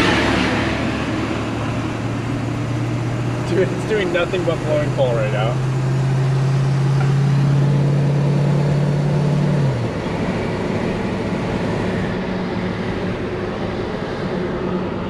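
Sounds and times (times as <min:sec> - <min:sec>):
diesel engine droning: 0:00.0 - 0:15.0
road noise: 0:00.0 - 0:15.0.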